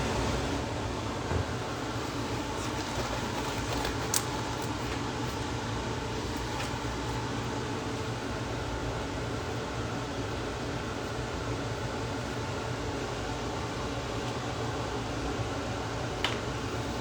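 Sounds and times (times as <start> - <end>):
fan-like hum and hiss: 0.0 - 17.0.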